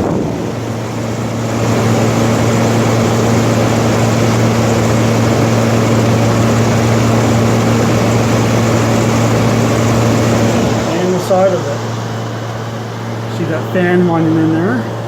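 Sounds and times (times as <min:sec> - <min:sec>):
air conditioner compressor humming: 0:00.0 - 0:15.0
condenser fan rushing: 0:00.0 - 0:15.0.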